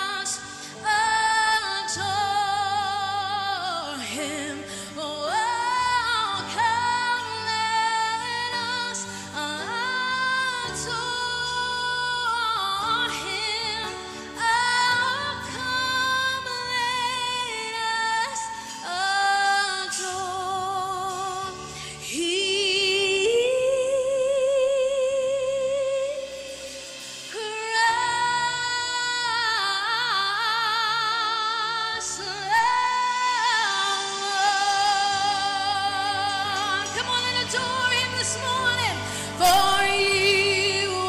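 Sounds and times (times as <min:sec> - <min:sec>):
woman singing with vibrato: 0:00.0 - 0:41.0.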